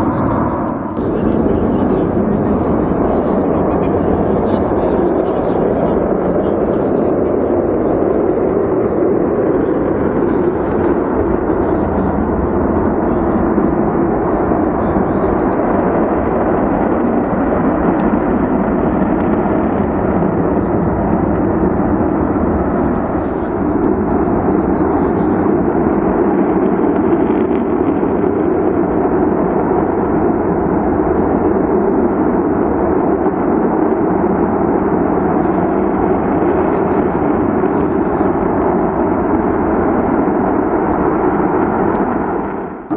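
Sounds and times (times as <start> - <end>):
gas jet burning with rushing roar: 0.0 - 42.9.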